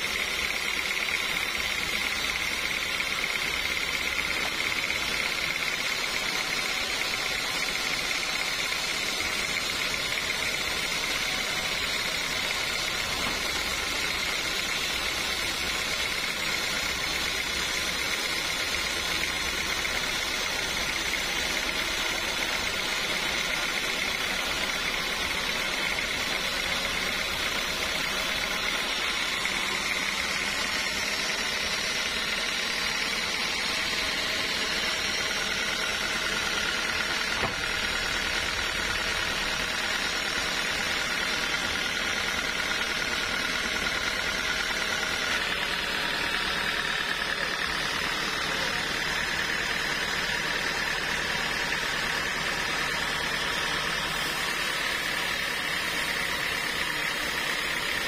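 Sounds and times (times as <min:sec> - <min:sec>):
sawmill machinery droning: 0:00.0 - 0:58.0.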